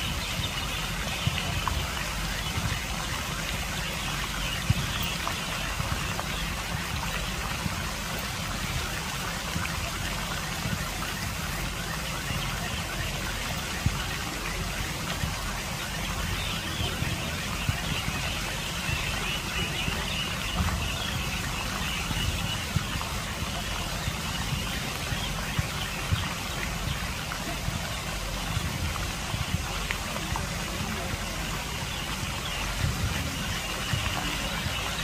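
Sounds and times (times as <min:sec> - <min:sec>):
fountain water splashing: 0:00.0 - 0:35.0.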